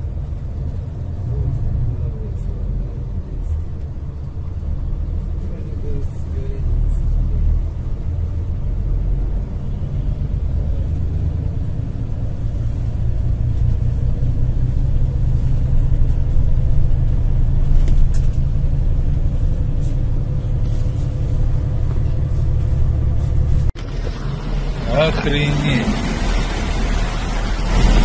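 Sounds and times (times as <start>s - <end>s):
vehicle engine rumble inside: 0.0s - 28.0s.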